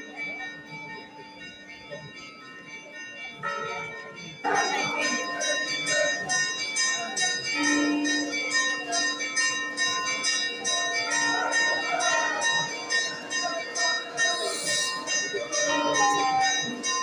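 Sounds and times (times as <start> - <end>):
bells ringing in a peal: 0.0 - 17.0.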